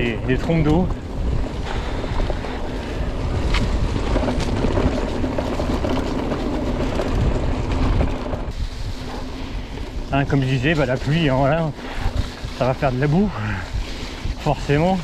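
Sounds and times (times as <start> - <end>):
bike rattling over rough ground: 0.0 - 15.0
wind rushing on microphone: 0.0 - 15.0.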